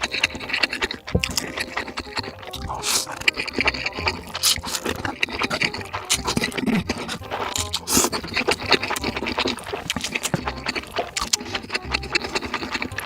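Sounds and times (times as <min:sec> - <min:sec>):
noodles slurped and chewed: 0:00.0 - 0:13.0.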